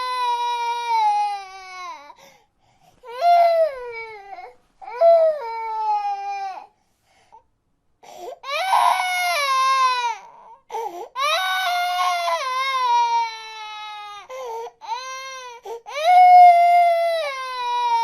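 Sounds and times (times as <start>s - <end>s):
baby crying: 0.0s - 2.2s, 3.0s - 6.7s, 8.4s - 18.0s.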